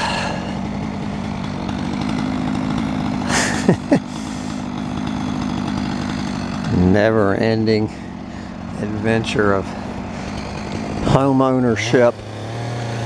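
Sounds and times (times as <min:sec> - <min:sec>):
chainsaw cutting: 0:00.0 - 0:13.0.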